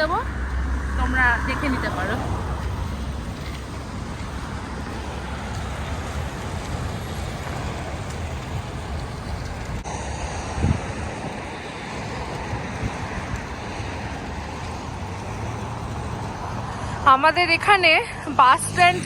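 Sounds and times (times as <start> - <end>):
street noise rumble and hiss: 0.0 - 19.0.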